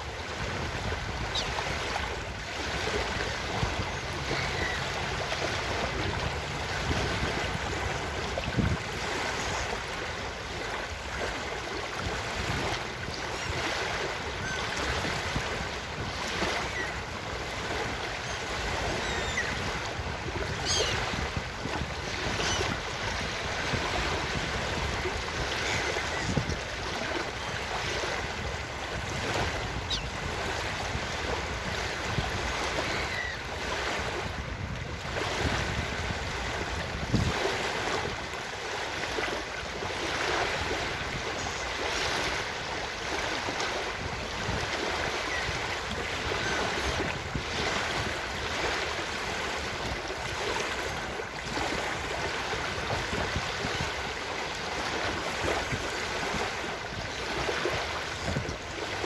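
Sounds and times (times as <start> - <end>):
ocean surf washing onto beach: 0.0 - 59.0.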